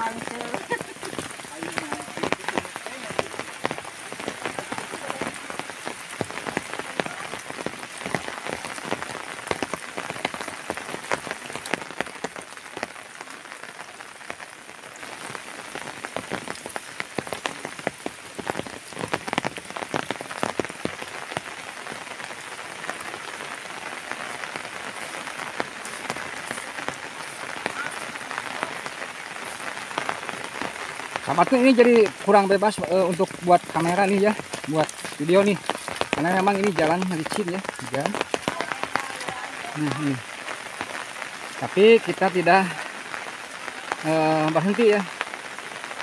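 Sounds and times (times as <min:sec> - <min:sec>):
heavy rain falling: 0:00.0 - 0:46.0
raindrop taps: 0:00.0 - 0:46.0.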